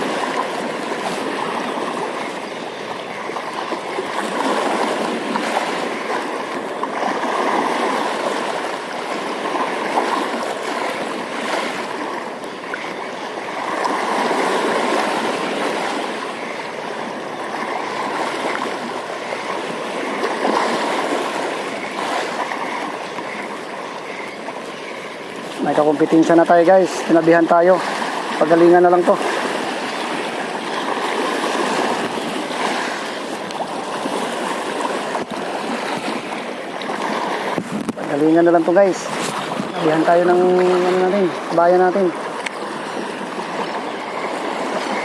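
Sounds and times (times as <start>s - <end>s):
running water rushing: 0.0s - 45.0s.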